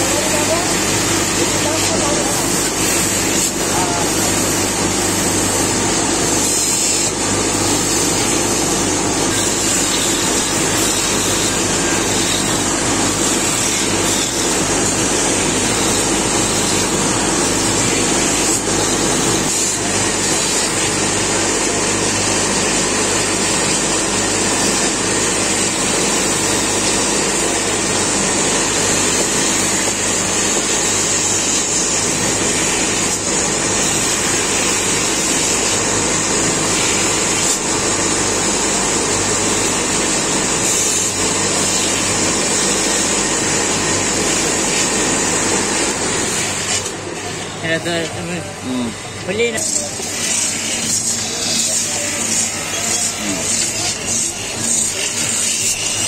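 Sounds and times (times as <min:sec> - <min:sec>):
sandpaper on spinning wood: 0:00.0 - 0:47.0, 0:49.4 - 0:56.0
wood lathe humming: 0:00.0 - 0:56.0.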